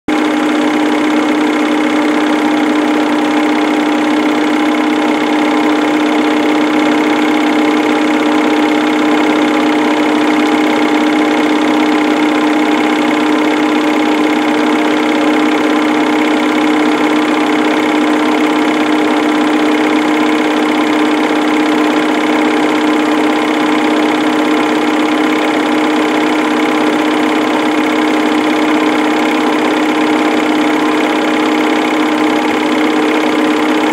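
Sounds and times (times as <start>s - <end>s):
film projector whirring: 0.1s - 33.9s.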